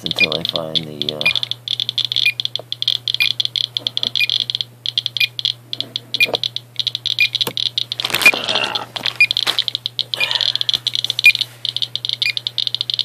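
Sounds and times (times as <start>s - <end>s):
geiger counter clicking: 0.0s - 8.4s, 9.2s - 13.0s
high-pitched alarm beeping: 1.1s - 8.4s, 9.2s - 13.0s.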